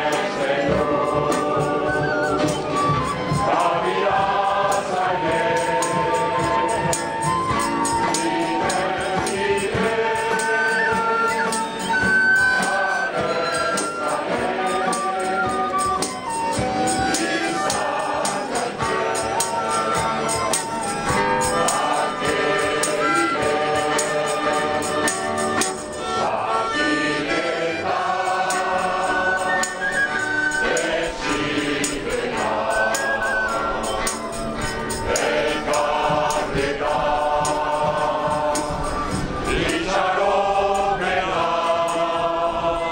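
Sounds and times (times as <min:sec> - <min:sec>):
crowd singing in unison: 0:00.0 - 0:42.9
flute: 0:00.0 - 0:42.9
strummed acoustic guitars: 0:00.0 - 0:42.9.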